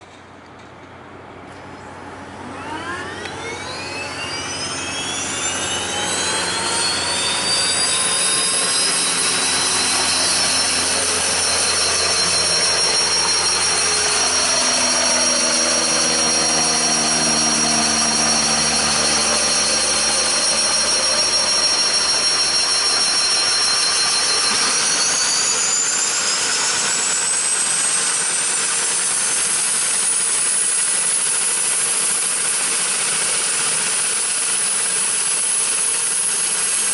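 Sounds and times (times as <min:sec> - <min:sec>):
turboprop engine starting: 0:01.7 - 0:36.9.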